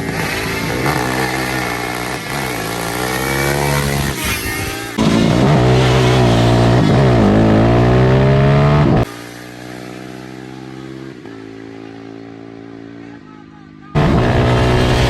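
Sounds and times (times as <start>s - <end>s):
atv engine at full throttle: 0.0s - 15.0s.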